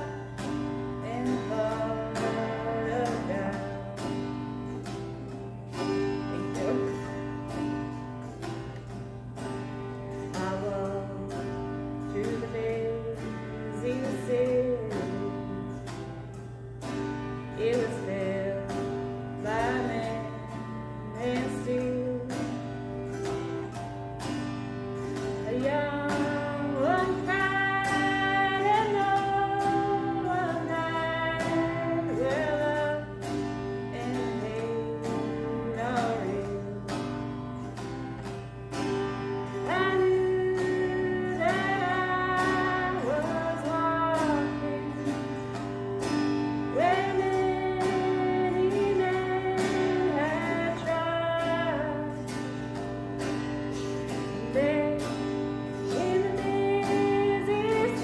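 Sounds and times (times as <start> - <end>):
autoharp strummed chords: 0.0 - 58.0
woman singing: 0.0 - 58.0.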